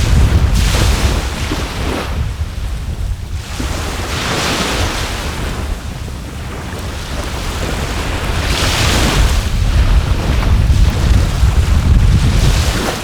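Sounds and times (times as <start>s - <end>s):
sea waves washing on shore: 0.0s - 13.0s
wind rumble on microphone: 0.0s - 13.0s.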